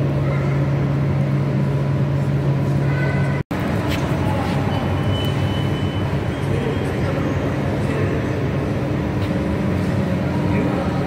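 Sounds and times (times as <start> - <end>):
station drone and hum: 0.0 - 11.0.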